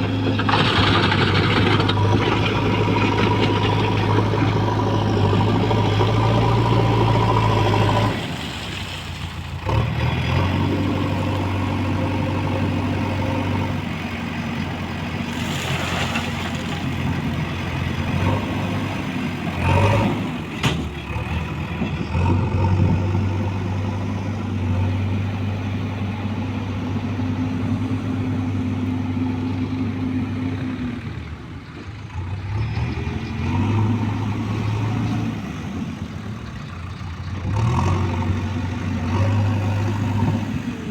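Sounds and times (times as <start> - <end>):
heavy machine engine running: 0.0 - 40.9.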